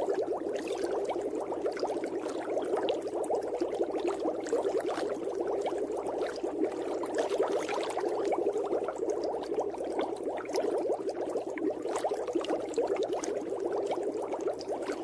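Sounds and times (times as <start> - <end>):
underwater bubbling: 0.0 - 15.0.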